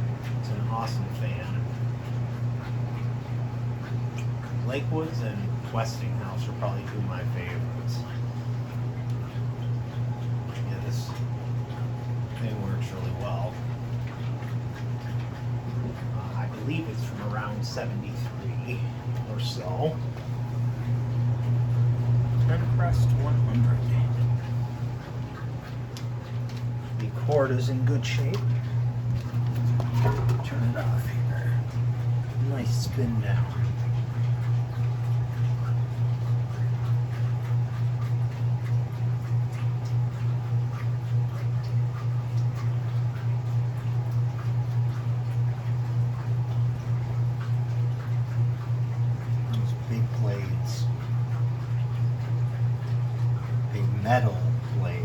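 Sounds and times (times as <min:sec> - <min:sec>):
fan motor hum: 0:00.0 - 0:55.0.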